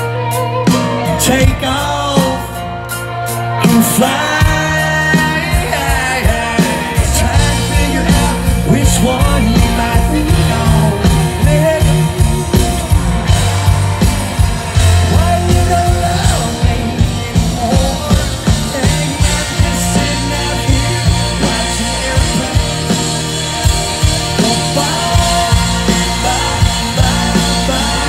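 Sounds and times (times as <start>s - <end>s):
live country-rock band: 0.0s - 28.0s
man singing: 0.0s - 28.0s.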